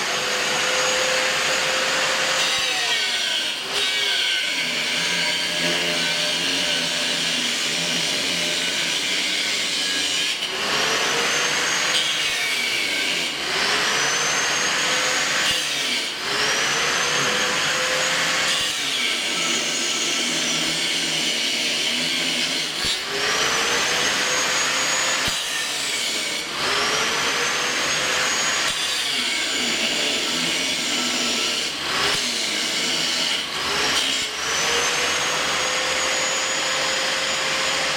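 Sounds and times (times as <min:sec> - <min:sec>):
power grinder grinding metal: 0:00.0 - 0:37.9.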